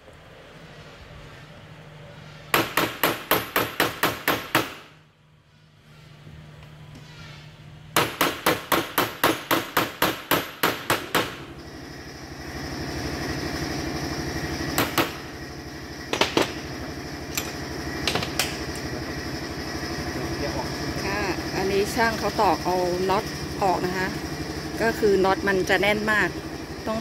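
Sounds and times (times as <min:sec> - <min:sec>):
steady mechanical running: 0:00.1 - 0:27.0.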